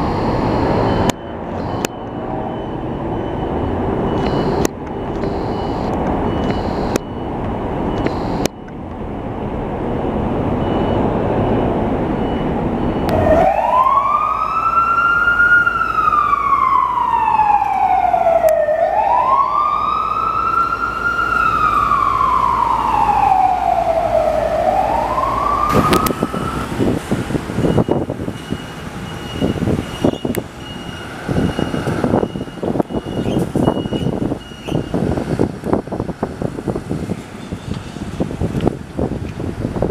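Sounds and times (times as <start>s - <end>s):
fire engine siren wailing: 0.0s - 35.8s
traffic noise: 0.0s - 39.9s.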